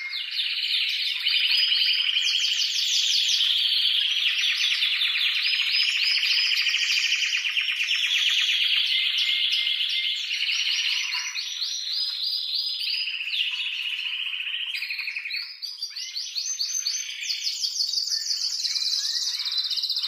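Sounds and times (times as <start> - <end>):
canary singing trills: 0.0 - 20.0.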